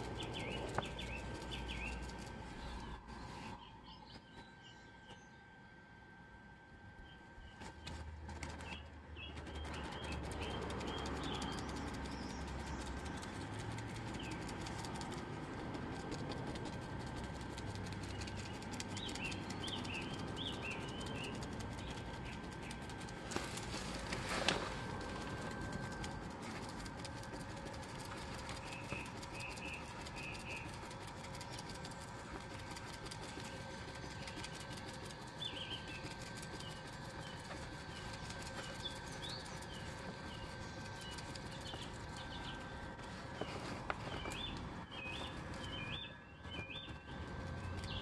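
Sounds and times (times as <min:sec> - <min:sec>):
brush dabbing resin crackle: 0:00.0 - 0:03.3, 0:08.7 - 0:45.8
small birds chirping: 0:00.0 - 0:05.4, 0:07.0 - 0:48.0.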